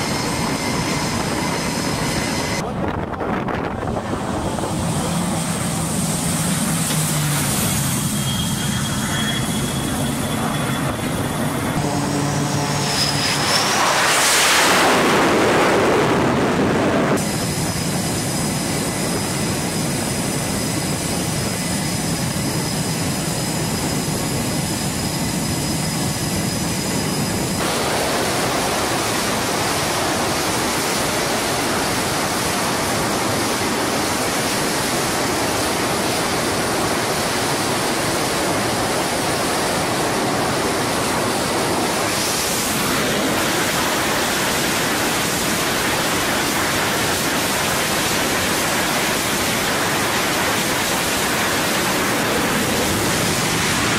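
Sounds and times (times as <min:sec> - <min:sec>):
jet aircraft passing: 0:00.0 - 0:53.9
jet engines whistling: 0:00.0 - 0:53.9
steady jet engine roar: 0:00.0 - 0:53.9.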